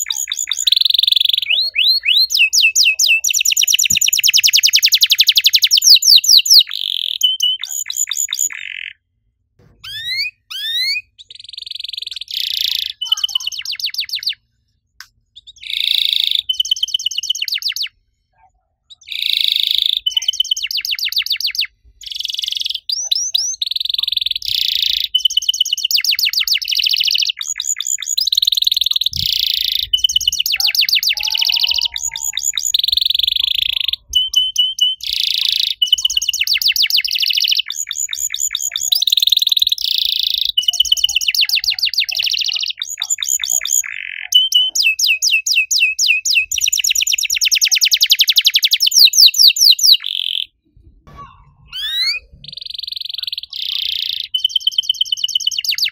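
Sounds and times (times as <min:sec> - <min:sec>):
canary singing: 0:00.0 - 0:14.4, 0:15.0 - 0:55.9.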